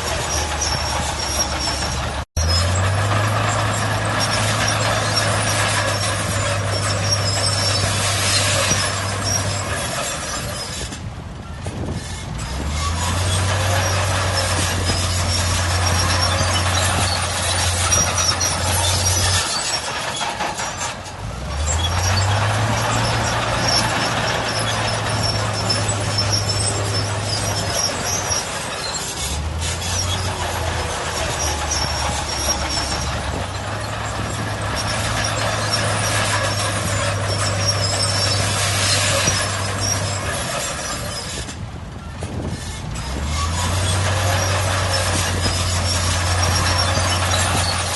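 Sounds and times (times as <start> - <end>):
diesel machinery engine: 0.0 - 47.9.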